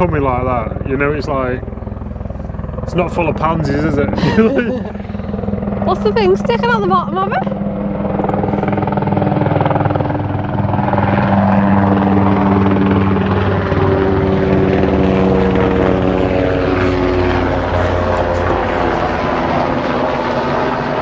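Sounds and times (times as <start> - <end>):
helicopter flying over: 0.0 - 21.0.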